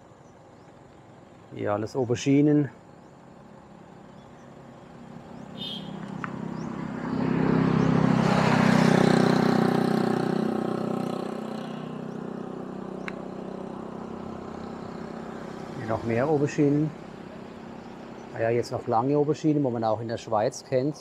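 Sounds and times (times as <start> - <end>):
vehicle passing on road: 2.8 - 20.6.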